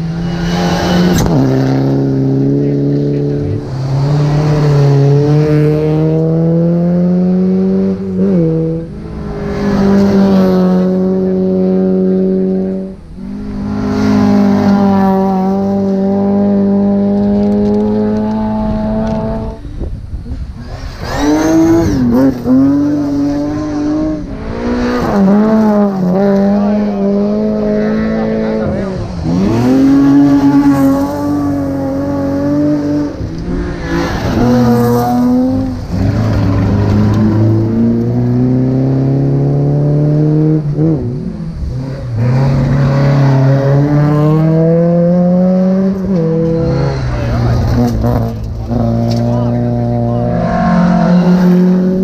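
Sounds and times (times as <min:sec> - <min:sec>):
rally car engine accelerating: 0:00.0 - 0:52.0.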